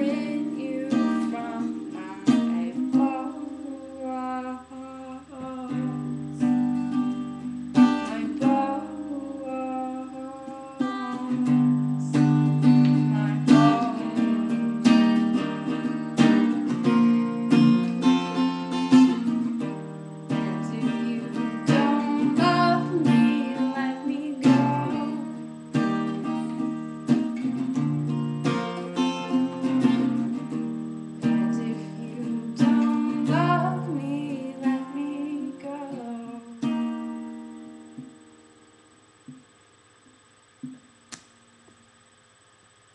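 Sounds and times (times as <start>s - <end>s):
acoustic guitar strumming: 0.0s - 39.6s.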